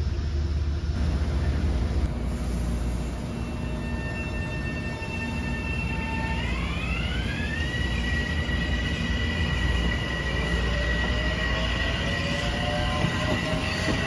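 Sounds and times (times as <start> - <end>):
rail rumble: 0.0 - 14.0
train traction motor whine: 0.0 - 14.0.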